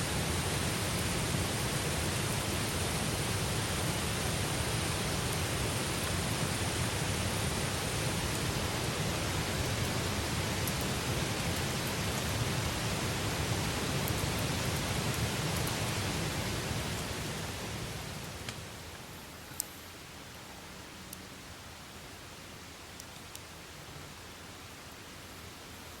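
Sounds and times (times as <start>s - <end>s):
campfire burning with rushing noise: 0.0s - 26.0s
faint fire crackles: 0.0s - 26.0s.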